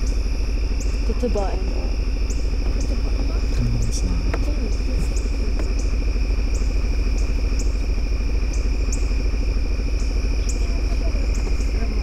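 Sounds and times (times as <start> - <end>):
insects droning: 0.0 - 12.0
vehicle engine idling: 0.0 - 12.0.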